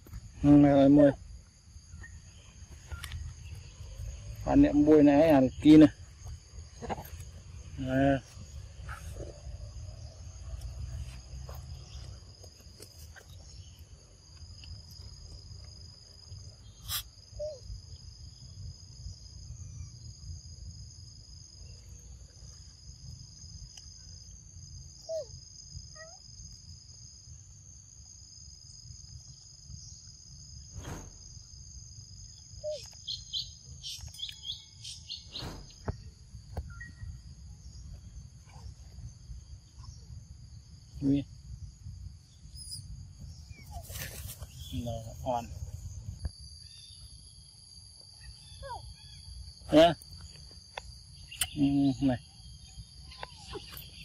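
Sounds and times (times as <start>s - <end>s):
insect chorus: 0.0s - 54.0s.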